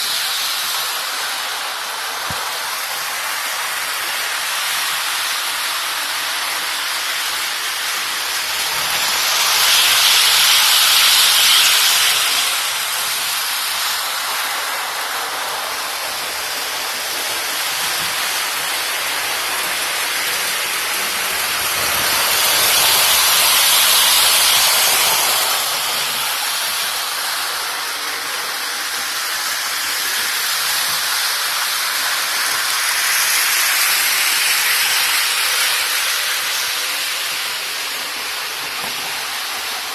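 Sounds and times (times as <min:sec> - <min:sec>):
model trains rolling on track: 0:00.0 - 0:39.9.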